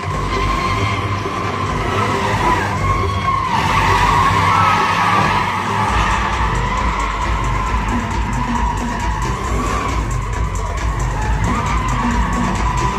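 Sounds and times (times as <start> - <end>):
car tyres squealing: 0.0 - 12.9
engine rumble: 0.0 - 12.9.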